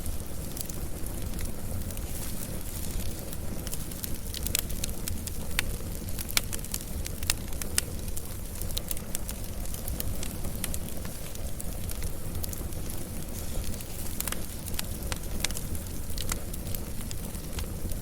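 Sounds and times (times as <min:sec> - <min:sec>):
fire crackling and popping: 0:00.0 - 0:18.0
low rumble of fire: 0:00.0 - 0:18.0.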